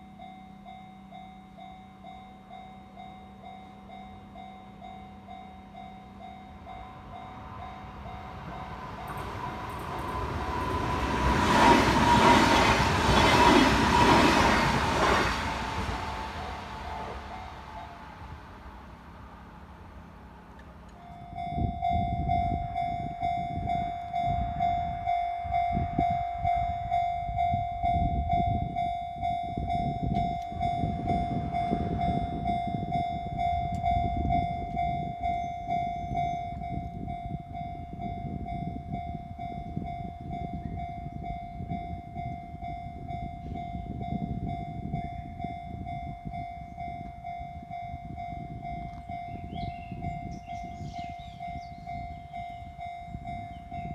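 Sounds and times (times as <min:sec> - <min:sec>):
train rumbling and clattering: 0:01.1 - 0:53.9.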